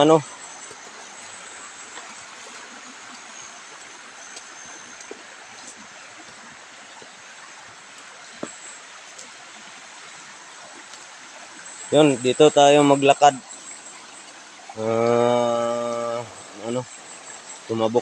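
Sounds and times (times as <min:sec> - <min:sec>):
creek flowing over rocks: 0:00.0 - 0:18.0.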